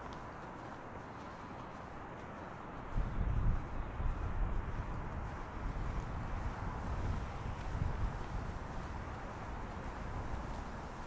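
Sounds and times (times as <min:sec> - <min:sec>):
steady outdoor hiss: 0:00.0 - 0:11.0
wind buffeting microphone: 0:00.0 - 0:11.0.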